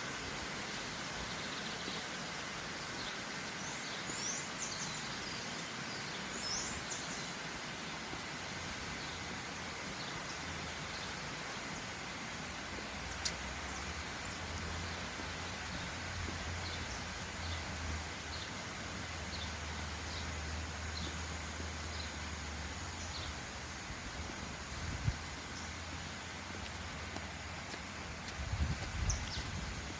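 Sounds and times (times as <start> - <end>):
small stream rushing: 0.0 - 29.9.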